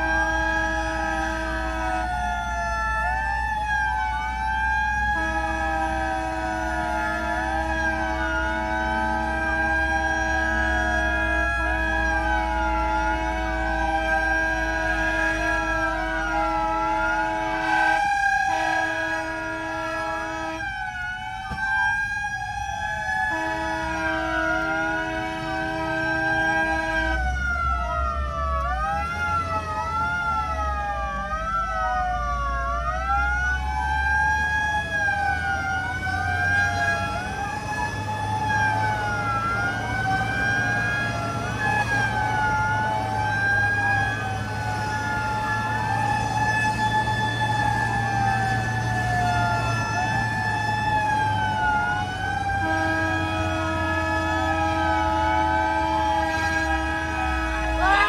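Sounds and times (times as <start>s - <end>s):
fire engine sirens wailing: 0.0s - 58.0s
steady held siren tone: 0.0s - 58.0s.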